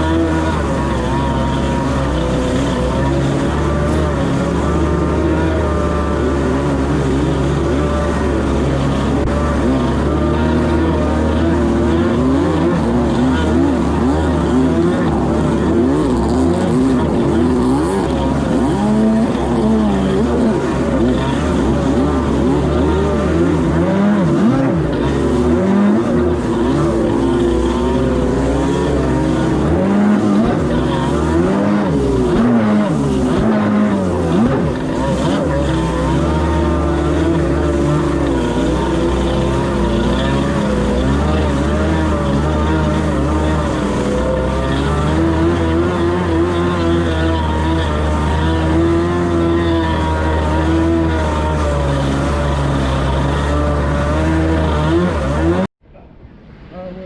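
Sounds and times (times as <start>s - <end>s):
jet ski engines revving: 0.0s - 57.0s.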